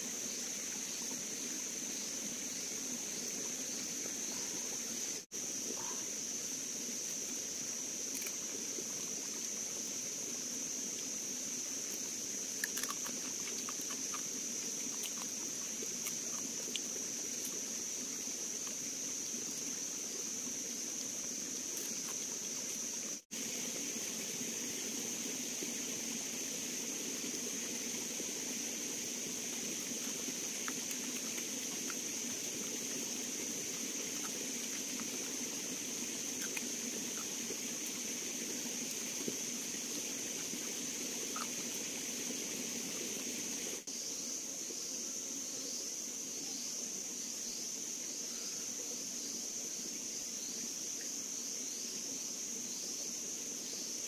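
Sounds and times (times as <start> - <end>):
low hiss: 0.0 - 54.0.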